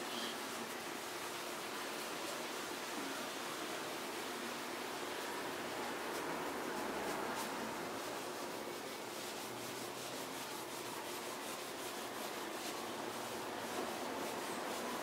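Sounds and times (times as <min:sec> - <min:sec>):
pad scrubbing window glass: 0:00.0 - 0:15.0.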